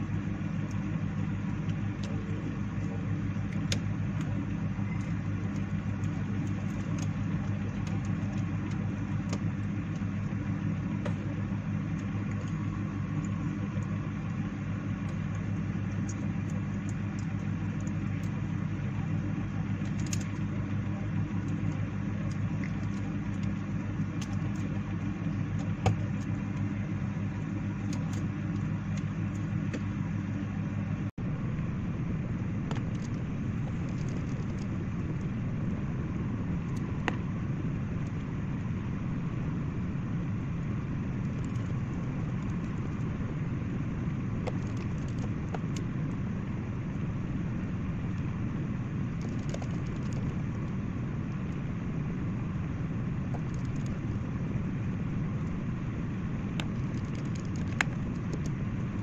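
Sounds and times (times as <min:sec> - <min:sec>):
low hum: 0:00.0 - 0:59.0
low rumble: 0:00.0 - 0:59.0.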